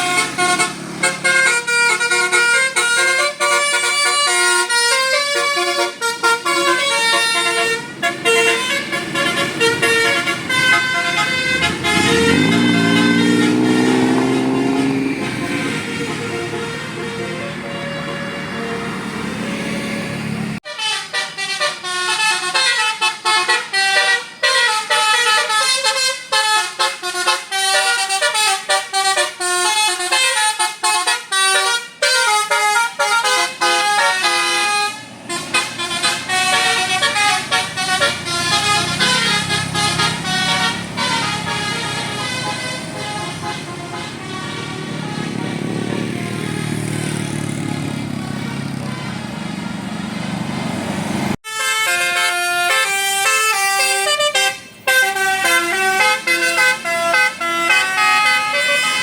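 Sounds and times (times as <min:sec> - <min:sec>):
bus air horn melody: 0:00.0 - 0:50.3, 0:51.3 - 0:59.0.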